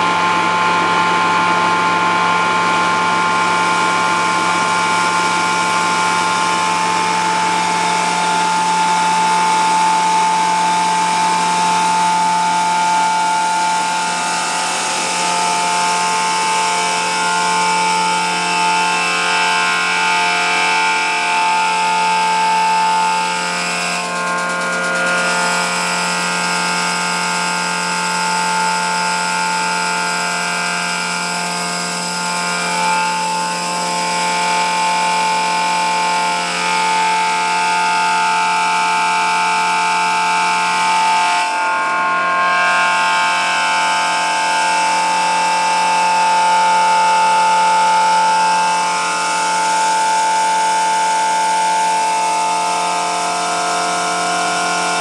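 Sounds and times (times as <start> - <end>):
machinery whining steadily: 0.0 - 55.0.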